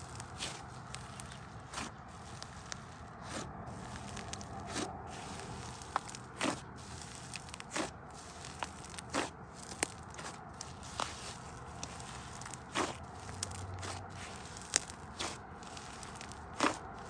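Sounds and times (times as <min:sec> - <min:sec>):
slime squelching: 0:00.0 - 0:17.0.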